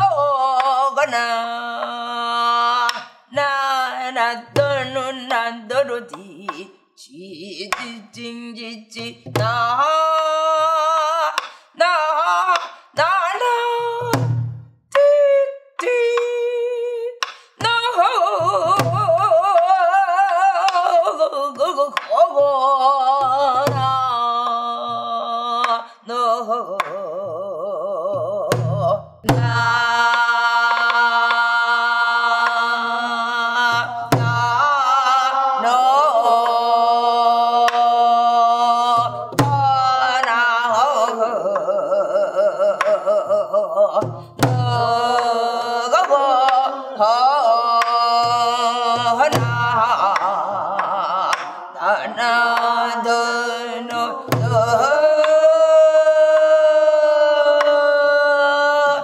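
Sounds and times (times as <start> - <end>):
woman singing wordless melody: 0.0 - 59.0.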